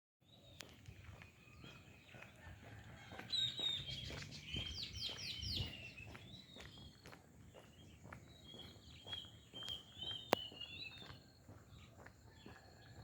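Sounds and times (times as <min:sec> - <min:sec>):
birds chirping and calling: 0:00.4 - 0:12.5
soft footsteps: 0:00.5 - 0:13.0.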